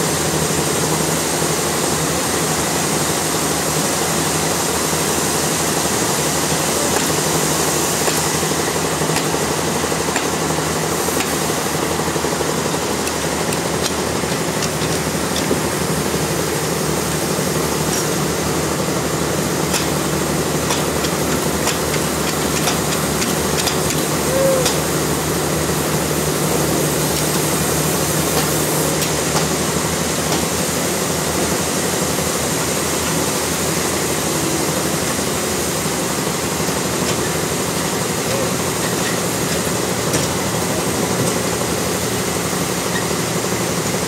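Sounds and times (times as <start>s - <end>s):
sawmill machinery running: 0.0s - 44.0s.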